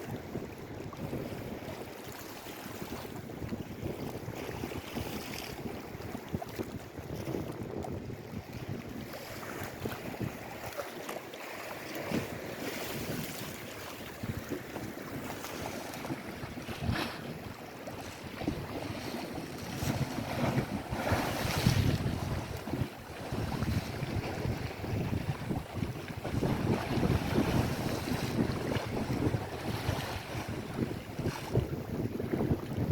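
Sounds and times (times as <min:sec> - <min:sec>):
wind buffeting microphone: 0:00.0 - 0:10.9, 0:11.8 - 0:32.9
lake waves washing on shore: 0:00.0 - 0:32.9.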